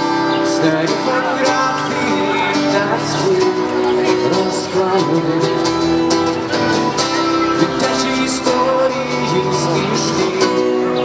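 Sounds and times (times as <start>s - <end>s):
acoustic guitar strumming: 0.0s - 11.0s
person singing into a microphone: 0.1s - 11.0s.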